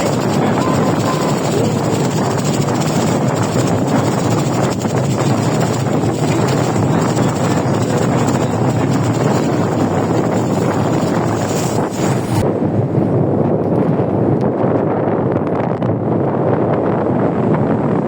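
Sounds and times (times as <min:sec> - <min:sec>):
boat running noise: 0:00.0 - 0:14.8
wind buffeting microphone: 0:00.0 - 0:18.0.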